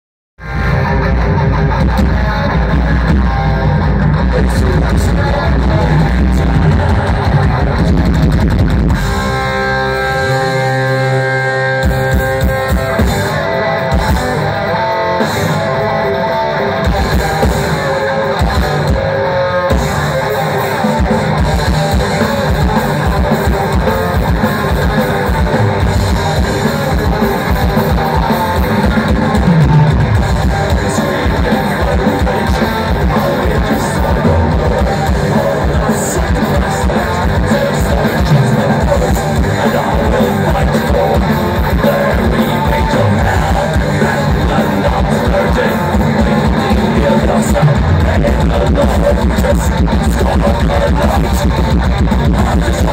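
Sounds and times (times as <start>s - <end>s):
heavy metal band playing: 0.4s - 52.9s
fast dense drumming: 0.8s - 11.2s, 11.8s - 14.6s, 16.6s - 52.9s.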